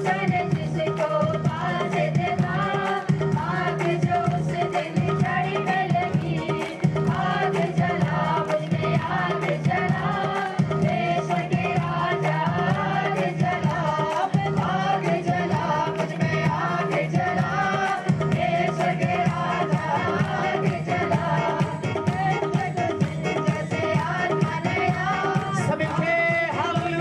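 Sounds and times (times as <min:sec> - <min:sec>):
hand drum beat: 0:00.0 - 0:27.0
person singing worship song: 0:00.0 - 0:27.0.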